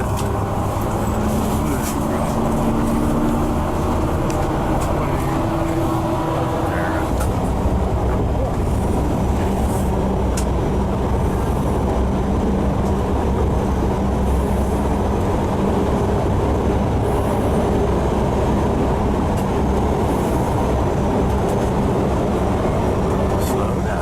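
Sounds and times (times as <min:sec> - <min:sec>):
bus engine and tyre rumble: 0:00.0 - 0:24.0.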